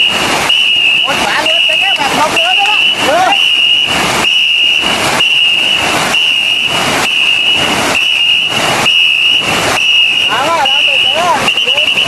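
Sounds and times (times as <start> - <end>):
paddles striking water: 0.0 - 12.0
shrill whistle blasts: 0.0 - 12.0.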